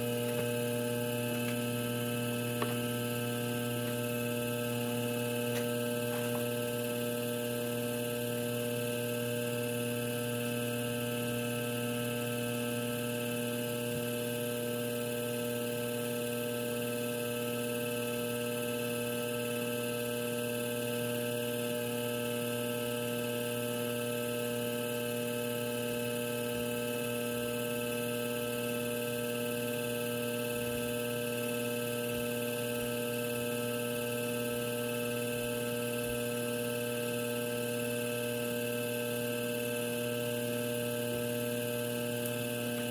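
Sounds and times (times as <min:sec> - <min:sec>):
potter's wheel motor humming: 0:00.0 - 0:42.9.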